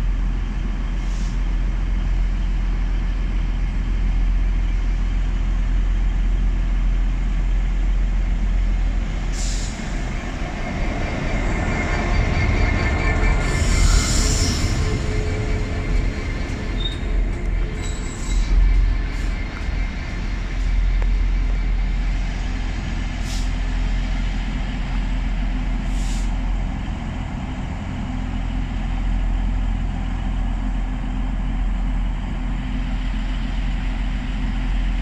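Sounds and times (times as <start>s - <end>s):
diesel locomotive engine rumbling: 0.0s - 35.0s.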